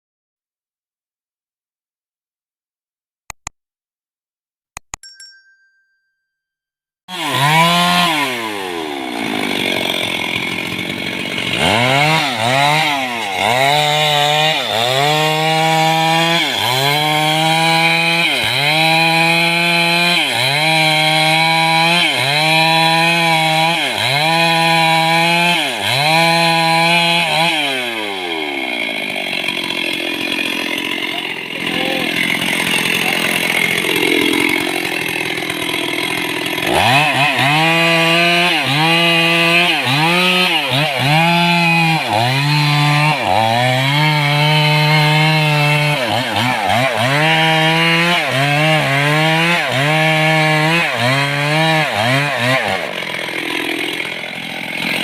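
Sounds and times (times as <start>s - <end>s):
chainsaw engine revving: 7.1s - 55.0s.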